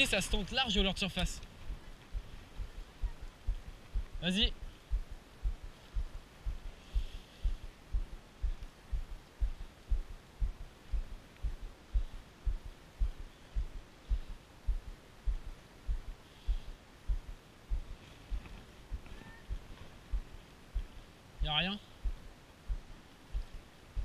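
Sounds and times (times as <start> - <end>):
dull low thumps: 1.6 - 24.0.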